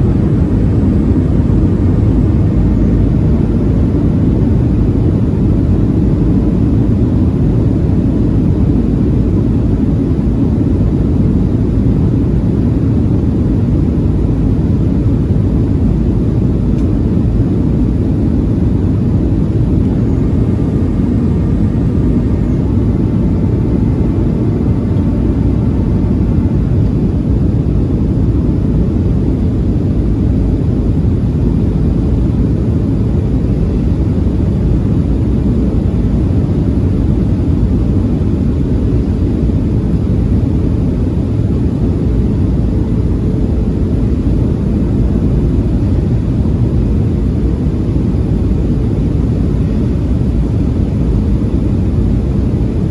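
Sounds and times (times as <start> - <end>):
airplane cabin rumble: 0.0 - 52.9
faint high whine: 0.0 - 52.9.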